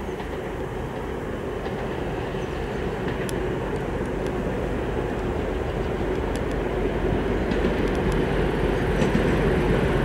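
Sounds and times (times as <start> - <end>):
diesel locomotive engine rumble: 0.0 - 10.0.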